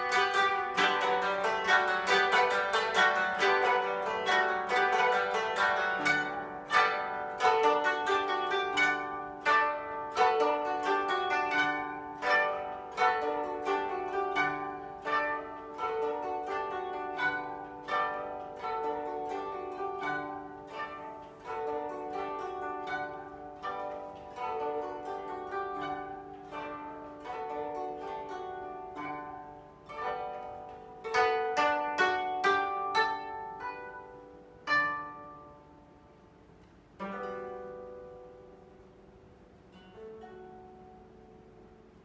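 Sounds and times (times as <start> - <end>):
koto ensemble plucked notes: 0.0 - 42.0
low koto notes: 0.0 - 42.0.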